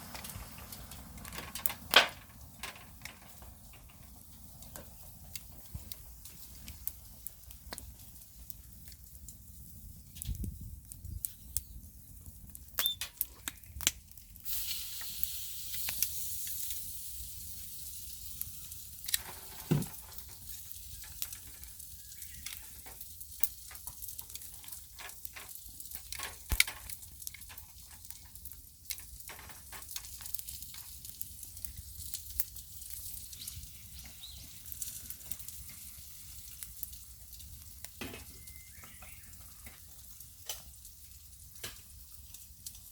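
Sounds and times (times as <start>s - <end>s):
campfire crackling and popping: 0.0s - 42.9s
clams sizzling on grill: 0.0s - 42.9s.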